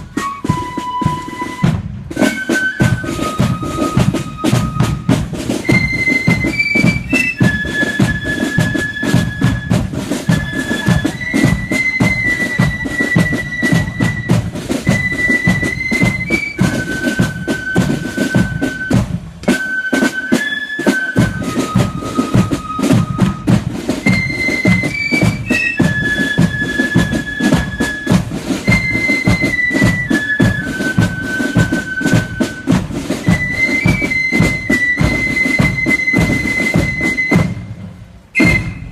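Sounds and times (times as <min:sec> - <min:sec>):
bass and snare drums: 0:00.0 - 0:38.9
flutes playing a tune: 0:00.0 - 0:38.9.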